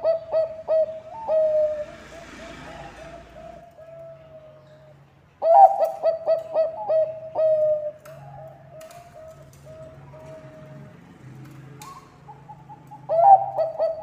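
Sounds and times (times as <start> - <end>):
dove cooing: 0.0 - 10.9, 11.8 - 14.0.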